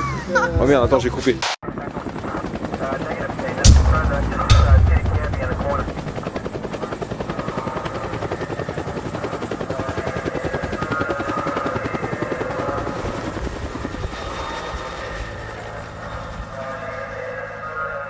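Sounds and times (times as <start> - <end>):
helicopter rotor chopping: 1.6 - 16.3.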